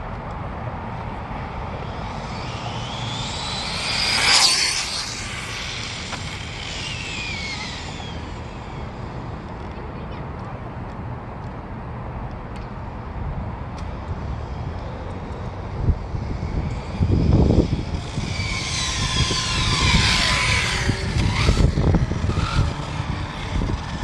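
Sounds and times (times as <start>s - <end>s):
rc car motor whine passing: 0.7s - 10.0s, 13.8s - 24.0s.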